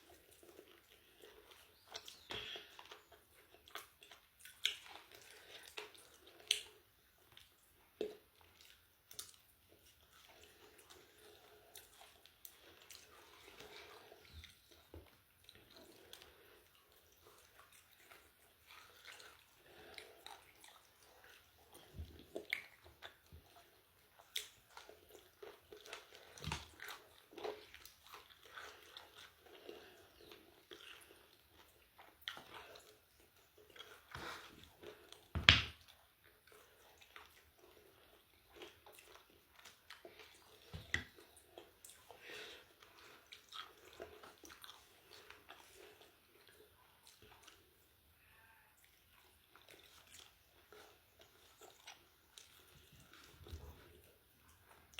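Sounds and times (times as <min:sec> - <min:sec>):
chewing crispy fried chicken: 0:00.0 - 0:54.9.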